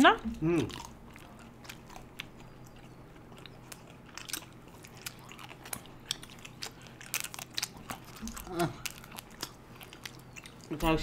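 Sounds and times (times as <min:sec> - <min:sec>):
eating and chewing mouth sounds: 0:00.0 - 0:11.0
faint steady hum: 0:00.0 - 0:11.0
chocolate coating crunching: 0:00.1 - 0:11.0.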